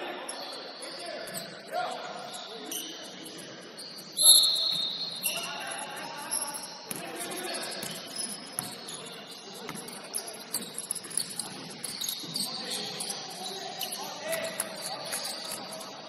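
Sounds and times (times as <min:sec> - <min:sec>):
murmur of distant voices: 0:00.0 - 0:16.0
sneakers squeaking on court: 0:00.3 - 0:16.0.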